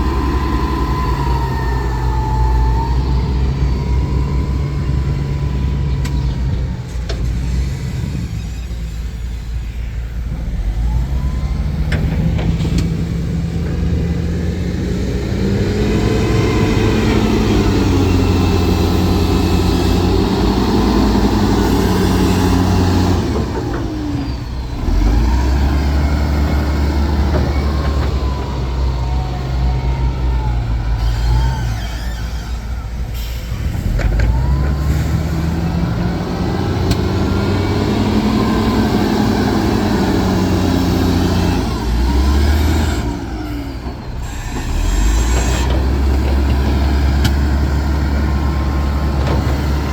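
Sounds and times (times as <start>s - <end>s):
heavy diesel engine revving: 0.0s - 8.5s, 10.3s - 49.9s.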